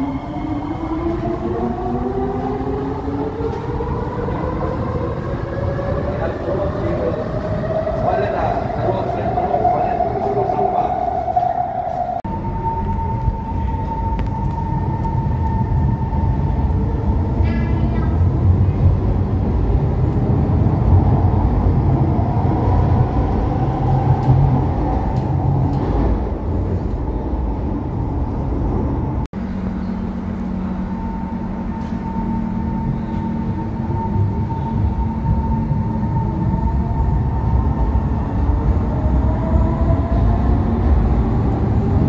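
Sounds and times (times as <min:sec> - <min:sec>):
train wheel rumble: 0:00.0 - 0:42.0.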